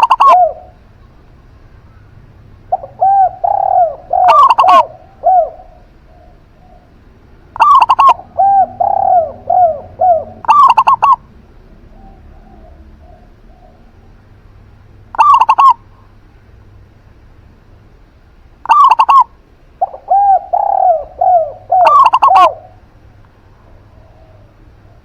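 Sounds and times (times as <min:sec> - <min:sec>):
doves cooing: 0:00.0 - 0:14.5, 0:15.1 - 0:16.2, 0:18.6 - 0:25.0.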